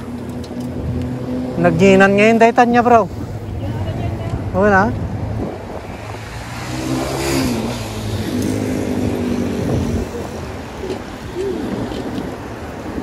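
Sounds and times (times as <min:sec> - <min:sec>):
road traffic passing: 0:00.0 - 0:13.0
wind rumbling on microphone: 0:00.0 - 0:13.0.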